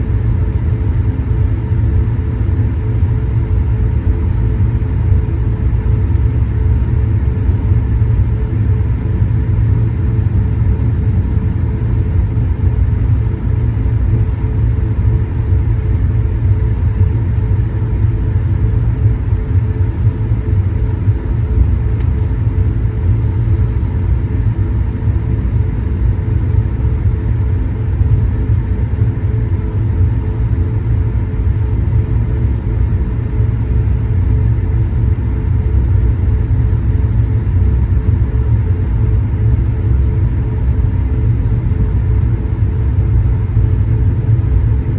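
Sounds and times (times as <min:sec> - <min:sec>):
airplane cabin engine drone: 0:00.0 - 0:44.9
deep even rumble: 0:00.0 - 0:44.9
steady hum tones: 0:00.0 - 0:44.9.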